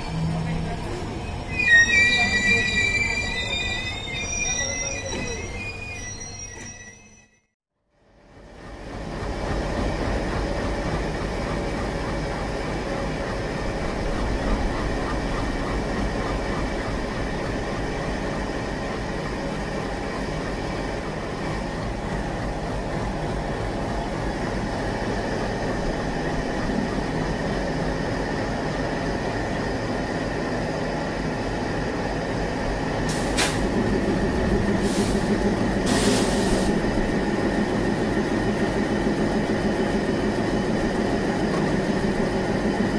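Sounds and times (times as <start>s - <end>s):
diesel locomotive engine idling: 8.0s - 42.9s.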